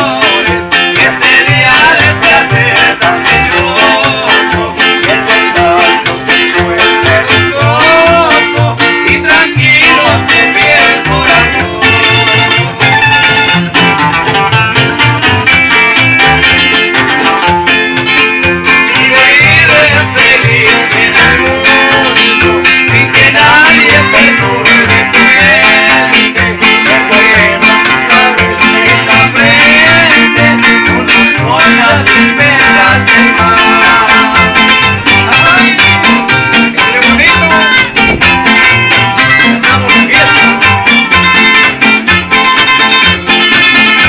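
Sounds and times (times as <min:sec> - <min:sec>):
acoustic guitars strumming: 0:00.0 - 0:44.0
upright bass plucking: 0:00.0 - 0:44.0.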